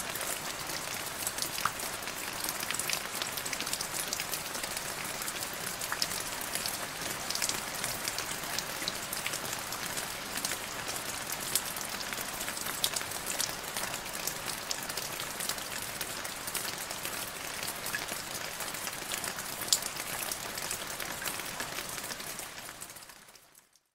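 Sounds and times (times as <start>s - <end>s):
rain falling into puddle: 0.0s - 23.9s.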